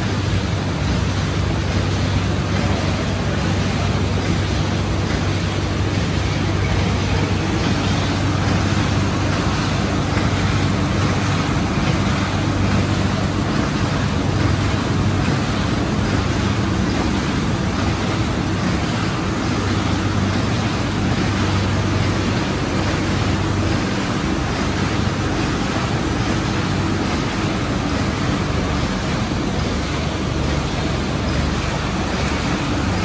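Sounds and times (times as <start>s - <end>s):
printing press drone: 0.0s - 33.0s.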